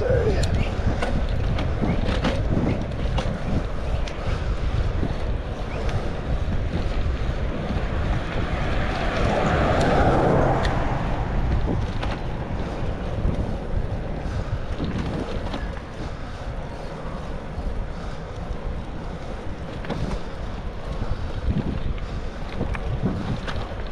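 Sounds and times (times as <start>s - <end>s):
low road rumble: 0.0s - 23.9s
wind rushing over microphone: 0.0s - 23.9s.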